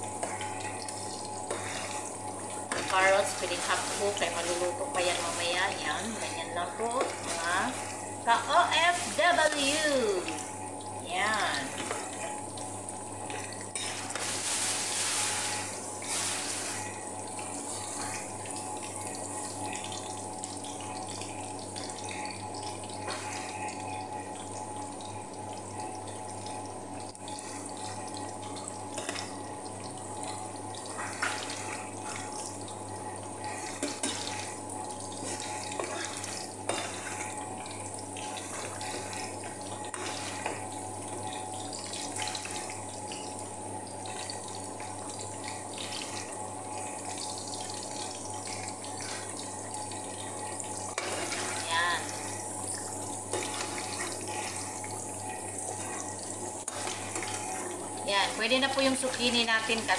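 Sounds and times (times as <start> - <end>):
vegetables sizzling in oil: 0.0 - 43.6, 50.4 - 59.9.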